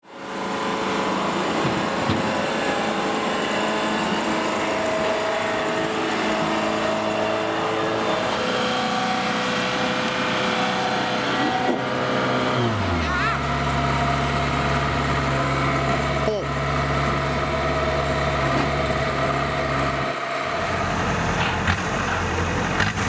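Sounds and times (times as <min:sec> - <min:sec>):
engine running: 0:00.1 - 0:23.0.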